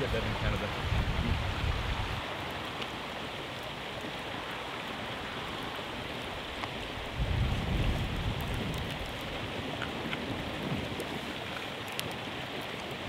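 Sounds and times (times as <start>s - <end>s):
campfire crackling: 0.0s - 13.0s
mountain stream rushing: 0.0s - 13.0s
wind rumbling on microphone: 0.0s - 13.0s.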